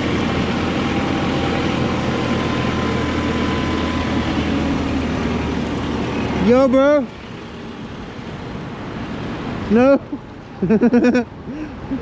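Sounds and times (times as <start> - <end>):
vehicle engine running: 0.0 - 9.9
road noise: 0.0 - 12.0.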